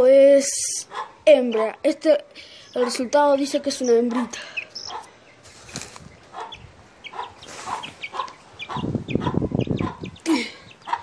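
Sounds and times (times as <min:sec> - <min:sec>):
chicks peeping: 0:00.4 - 0:11.0
hen clucking: 0:00.5 - 0:11.0.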